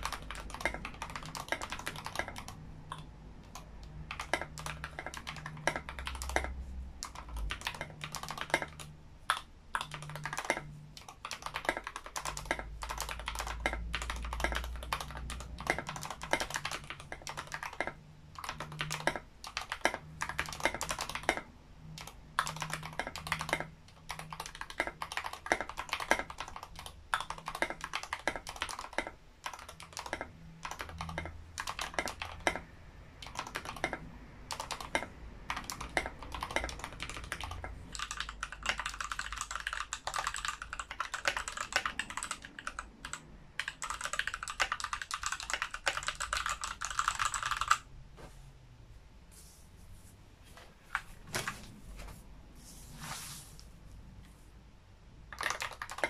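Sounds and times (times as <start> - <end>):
fast typing on mechanical keyboard: 0.0 - 47.9, 55.3 - 56.0.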